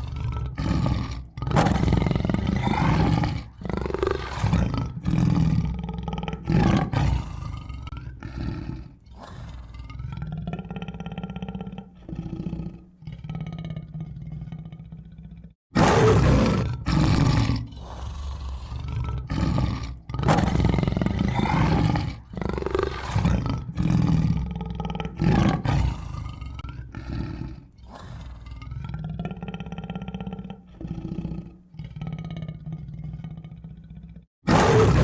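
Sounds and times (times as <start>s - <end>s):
tiger roaring and growling: 0.0s - 35.0s.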